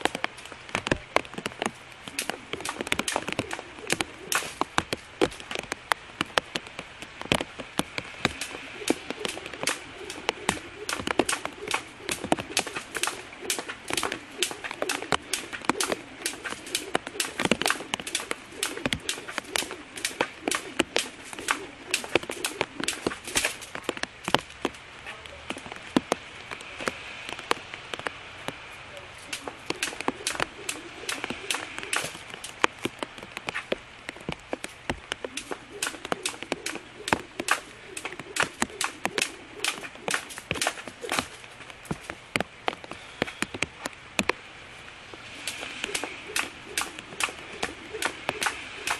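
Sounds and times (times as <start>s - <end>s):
raindrops tapping: 0.0s - 28.6s, 29.2s - 48.9s
faint steady hiss: 0.0s - 48.9s.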